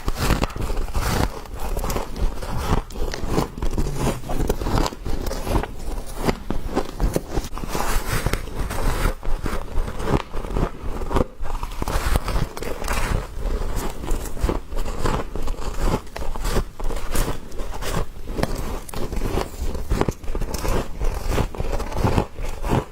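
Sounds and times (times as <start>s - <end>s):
frost crunching when chewed: 0.0s - 22.9s.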